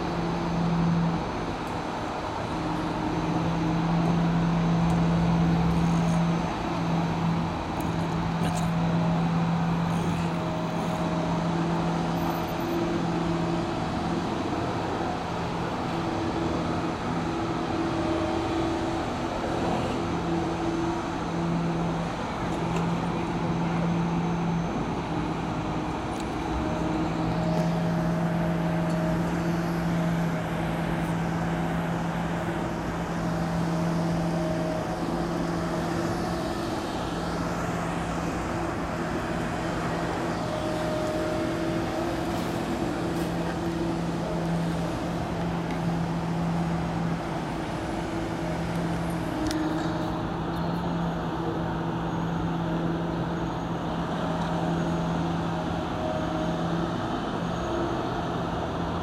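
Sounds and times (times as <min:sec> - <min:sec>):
excavator diesel engine: 0:00.0 - 0:59.0
street traffic: 0:00.0 - 0:59.0.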